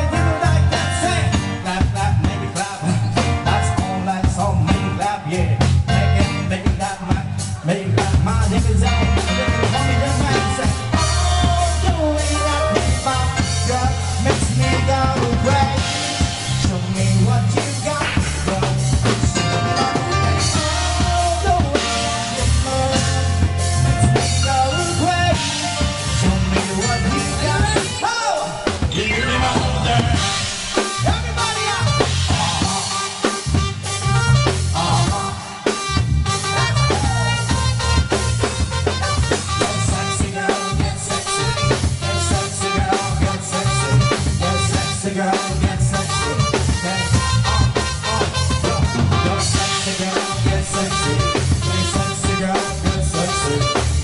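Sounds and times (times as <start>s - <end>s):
keyboard: 0.0s - 54.0s
steady drum beat: 0.0s - 54.0s.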